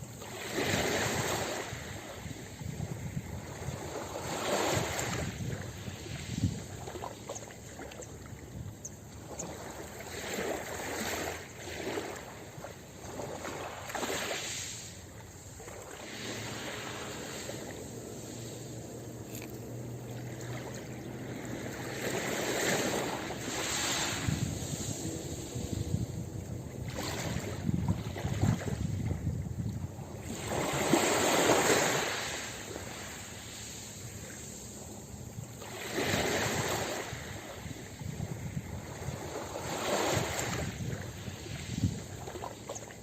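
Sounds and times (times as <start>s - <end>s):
ocean waves breaking on beach: 0.0s - 43.0s.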